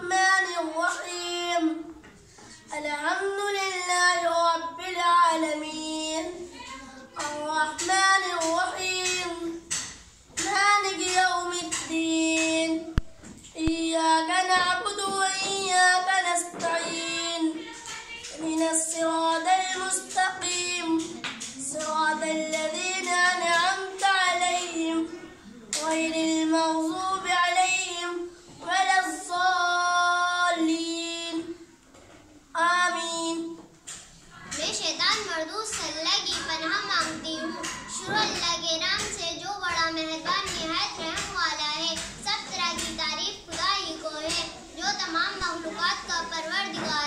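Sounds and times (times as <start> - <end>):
child chanting melodic recitation: 0.0 - 31.8, 32.5 - 47.0.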